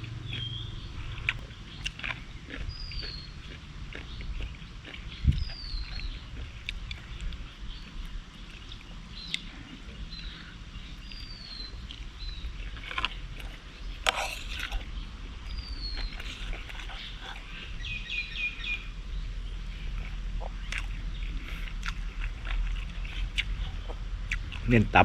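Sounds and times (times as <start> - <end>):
wet chewing and lip-smacking: 0.0 - 10.4, 11.0 - 18.8, 19.8 - 24.7.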